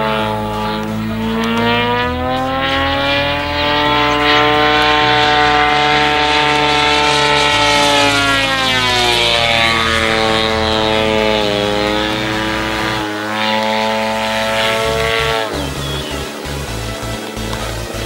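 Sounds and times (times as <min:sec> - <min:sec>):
model plane engine in flight: 0:00.0 - 0:18.0.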